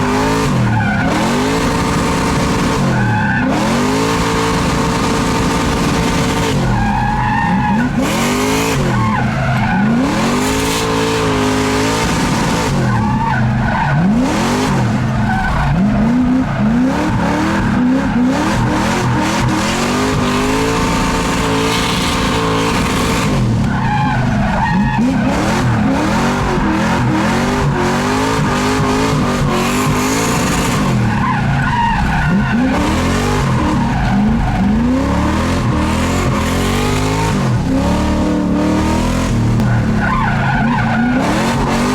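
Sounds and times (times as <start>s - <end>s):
car engine revving hard: 0.0s - 41.9s
tyres skidding and squealing: 0.0s - 41.9s.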